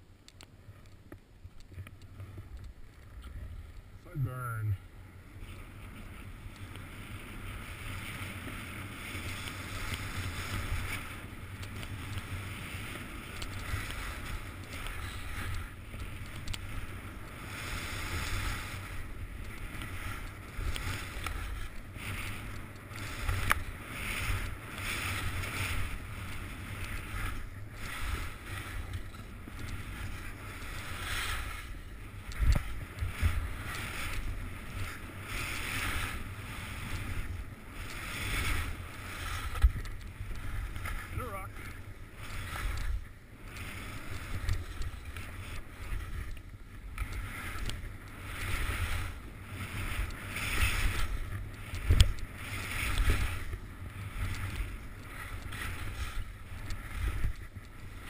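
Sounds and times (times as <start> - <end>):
skis scraping over snow: 0.0 - 58.0
wind rumble on microphone: 0.6 - 58.0.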